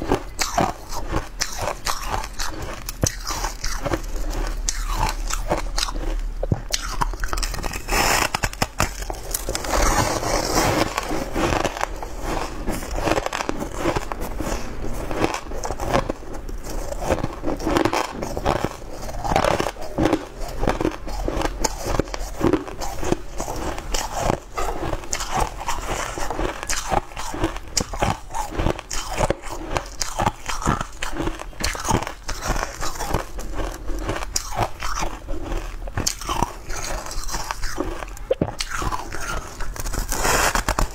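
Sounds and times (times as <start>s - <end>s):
crunchy ice chewing: 0.0s - 40.9s.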